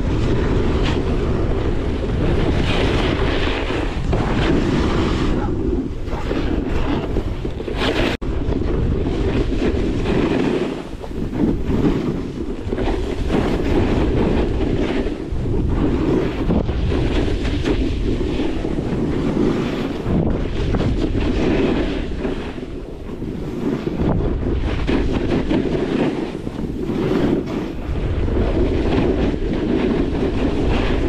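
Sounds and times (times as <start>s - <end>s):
snowboard edges scraping snow: 0.0s - 31.0s
wind buffeting microphone: 0.0s - 31.0s.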